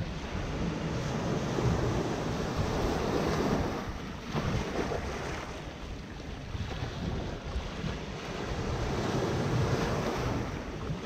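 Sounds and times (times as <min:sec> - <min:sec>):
waves washing over sand and rocks: 0:00.0 - 0:11.0.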